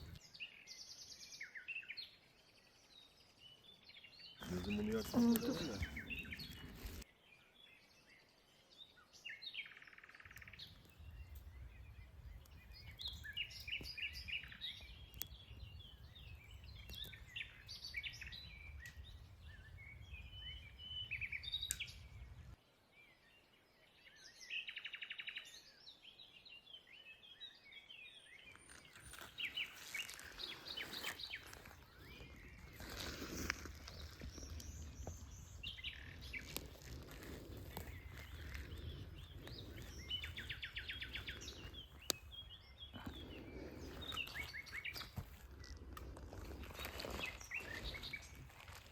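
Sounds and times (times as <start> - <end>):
birds chirping and singing: 4.0 - 8.3, 9.2 - 22.6, 24.0 - 48.8.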